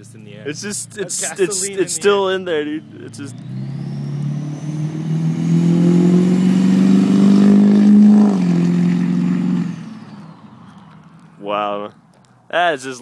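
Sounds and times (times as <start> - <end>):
pickup engine accelerating: 0.0 - 12.2.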